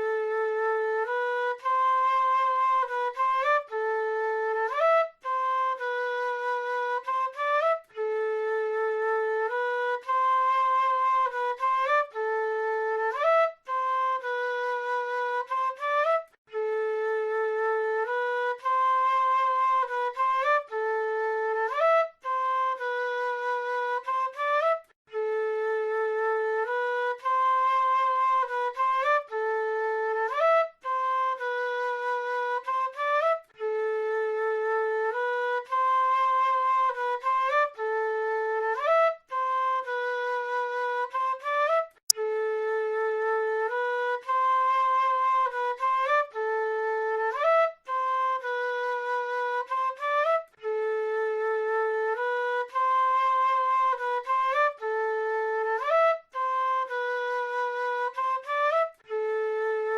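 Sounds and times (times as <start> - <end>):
flute playing slow melody: 0.0 - 59.9.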